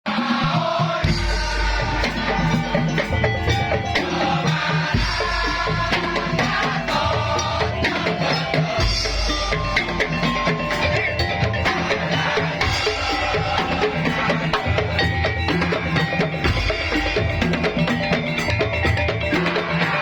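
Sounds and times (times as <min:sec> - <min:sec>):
percussion ensemble playing: 0:00.1 - 0:20.0.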